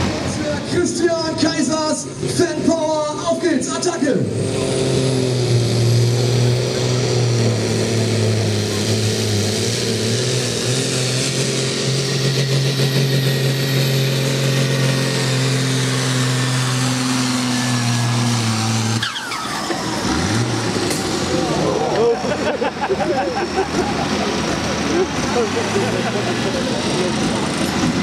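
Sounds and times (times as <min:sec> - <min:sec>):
falling engine whine: 0:00.0 - 0:28.0
tractor diesel engine droning: 0:00.0 - 0:28.0.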